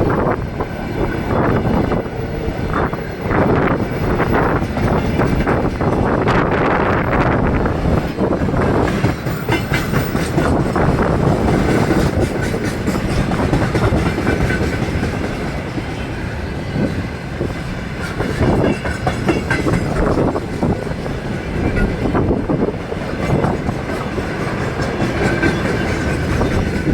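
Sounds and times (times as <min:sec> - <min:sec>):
train wheels clattering over rails: 0:00.0 - 0:26.9.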